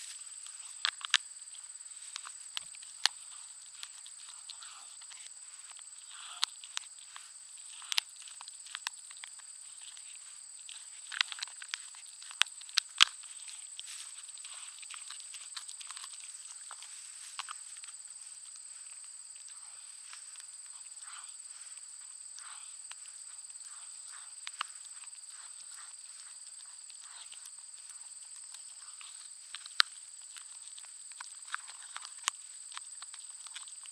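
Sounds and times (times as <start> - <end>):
dog chewing a bone: 0.3 - 1.2, 2.0 - 17.8, 22.4 - 33.9.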